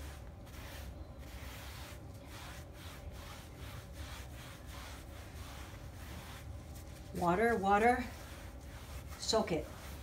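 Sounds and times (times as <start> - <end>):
wet brush scrubbing fabric: 0.0 - 10.0.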